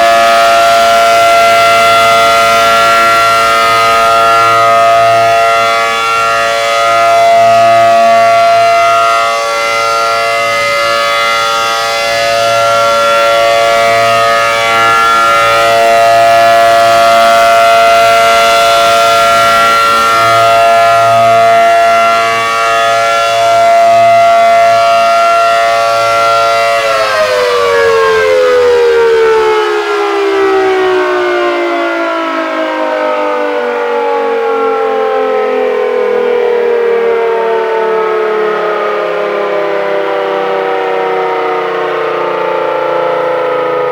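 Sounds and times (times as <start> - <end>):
siren winding down: 0.0 - 43.9
warning siren chord: 0.0 - 43.9.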